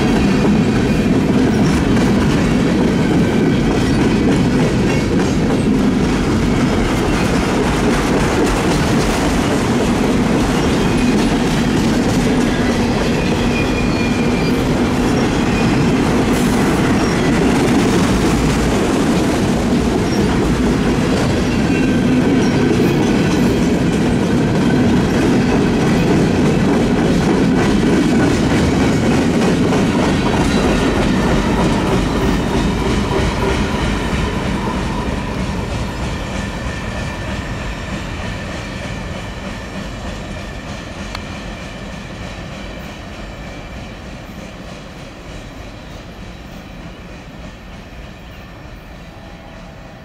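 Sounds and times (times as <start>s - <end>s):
freight train rolling past: 0.0s - 50.0s.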